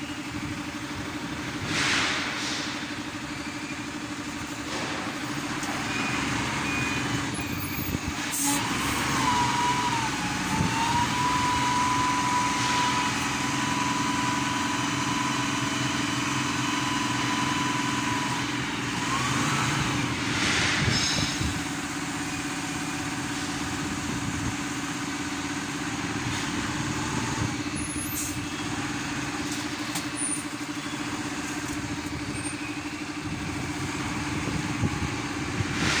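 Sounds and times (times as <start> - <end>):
forklift engine and hydraulic pump: 0.0 - 36.0.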